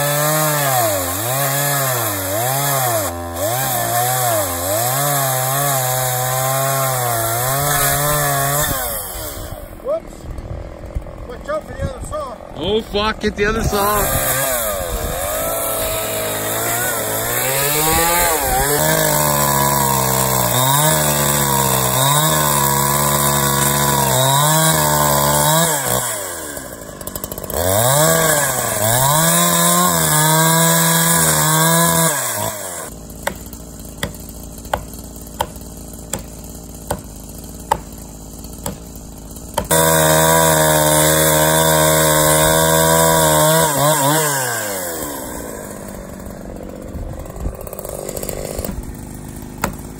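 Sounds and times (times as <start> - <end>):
chainsaw cutting tree trunk: 0.0 - 49.9.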